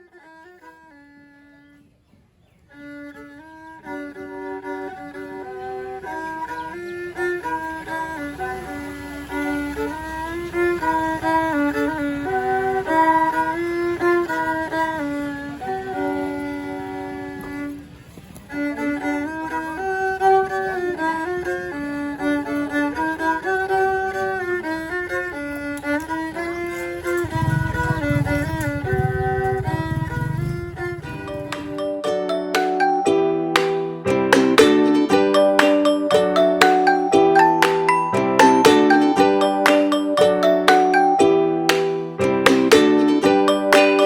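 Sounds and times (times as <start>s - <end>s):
instrumental music: 2.7s - 17.9s, 18.5s - 44.0s.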